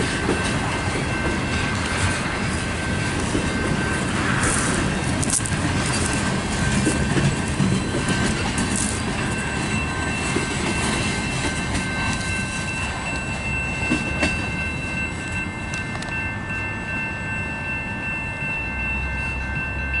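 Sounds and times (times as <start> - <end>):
freight train wheels clacking: 0.0 - 20.0.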